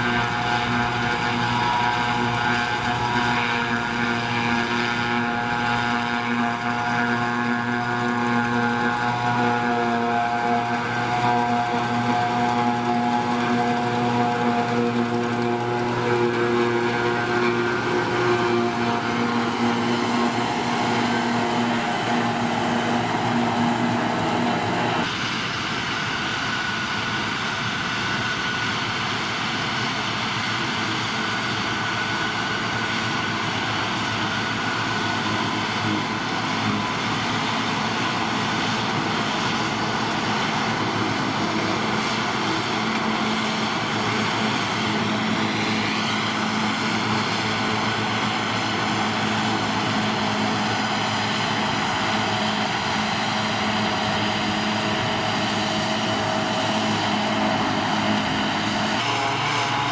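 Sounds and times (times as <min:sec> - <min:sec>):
forage harvester running: 0:00.0 - 0:59.9
high steady whine: 0:00.0 - 0:59.9
trailed forage harvester: 0:00.0 - 0:59.9.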